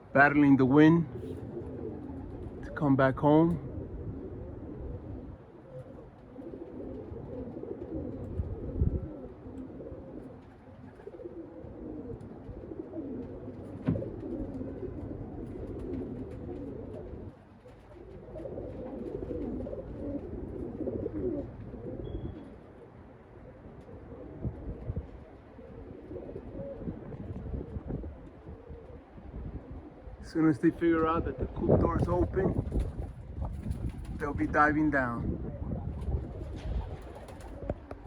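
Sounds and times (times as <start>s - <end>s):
pigeons cooing: 0.0s - 38.0s
wind rumbling on microphone: 0.0s - 38.0s.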